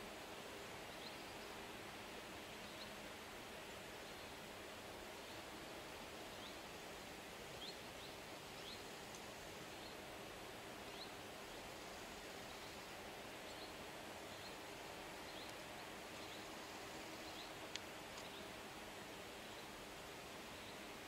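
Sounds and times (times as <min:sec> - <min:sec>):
breeze in trees: 0:00.0 - 0:21.0.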